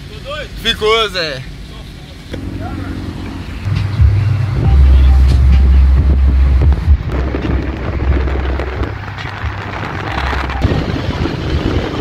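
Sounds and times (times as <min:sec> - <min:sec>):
wind and road rush: 0:00.0 - 0:12.0
deep bass from car stereo: 0:02.4 - 0:12.0.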